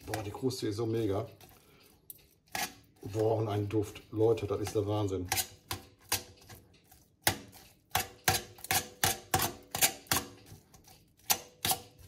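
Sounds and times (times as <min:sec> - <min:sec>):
forks clicking and scraping on steel: 0:00.0 - 0:12.0.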